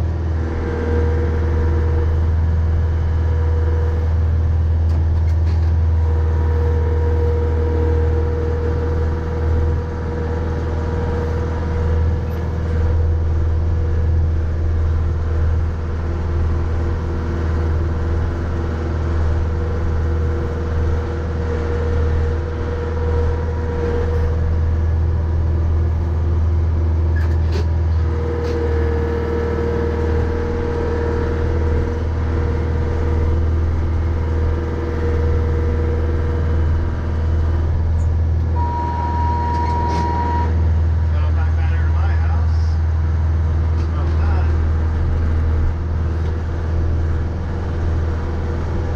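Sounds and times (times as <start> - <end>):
steady whine: 0.0 - 48.9
tractor diesel engine running: 0.0 - 48.9.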